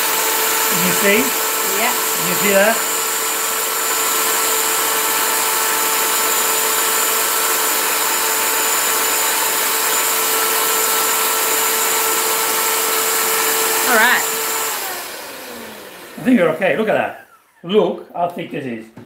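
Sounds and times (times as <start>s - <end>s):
electric hand mixer whirring: 0.0s - 17.7s.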